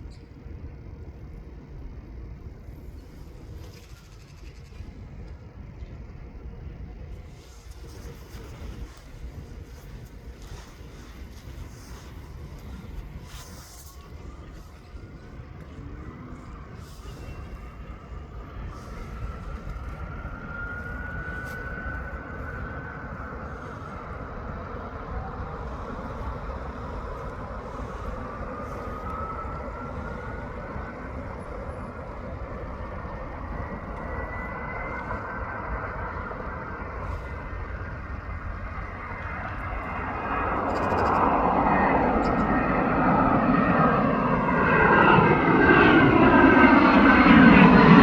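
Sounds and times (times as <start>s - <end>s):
jet engines whining and roaring: 0.0s - 48.0s.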